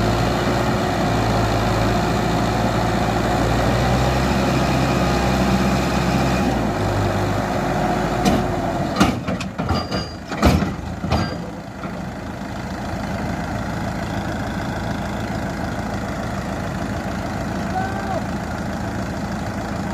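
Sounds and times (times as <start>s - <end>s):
tractor engine running: 0.0s - 19.9s.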